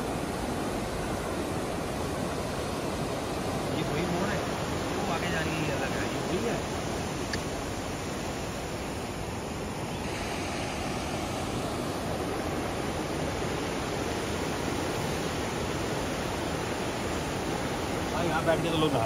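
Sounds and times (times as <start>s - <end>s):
river water over rapids: 0.0s - 19.0s.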